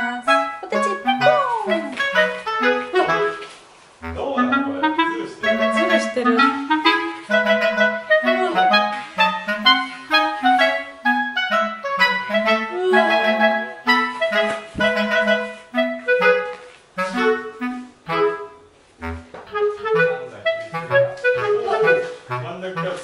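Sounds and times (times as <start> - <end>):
woodwind melody over bass: 0.0 - 23.0.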